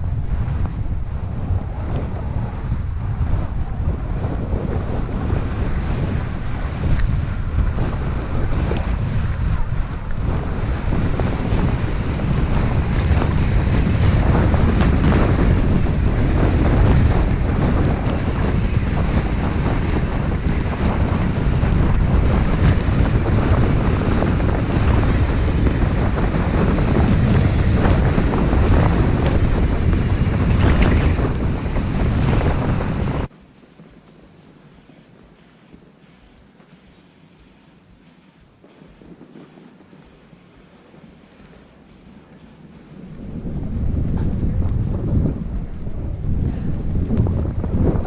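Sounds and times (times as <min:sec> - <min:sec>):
wind buffeting microphone: 0:00.0 - 0:36.6, 0:38.0 - 0:48.0.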